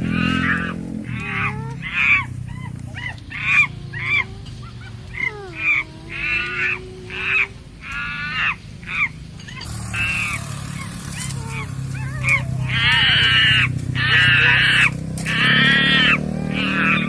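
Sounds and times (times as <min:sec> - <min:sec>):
honk-like animal calls: 0:00.0 - 0:17.0.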